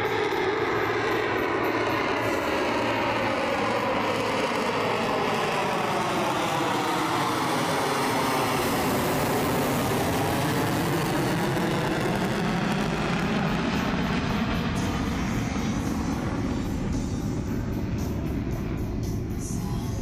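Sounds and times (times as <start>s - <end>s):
fighter jet flying past overhead: 0.0s - 20.0s.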